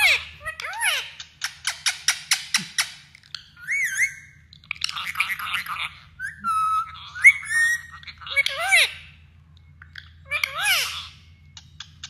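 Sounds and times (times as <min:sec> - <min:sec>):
parakeet calling: 0:00.0 - 0:12.0.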